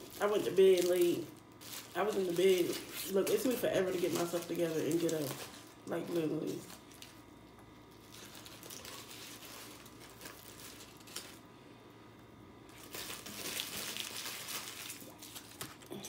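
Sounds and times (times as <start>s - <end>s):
paper packaging crinkling: 0.0s - 11.5s, 12.7s - 16.0s.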